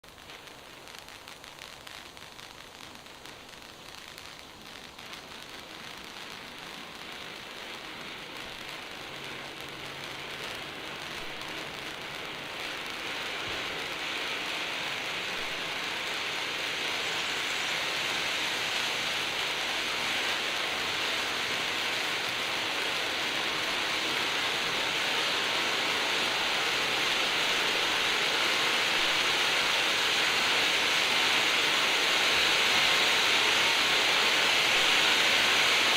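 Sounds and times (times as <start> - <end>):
firework fountain hissing: 0.0 - 35.9.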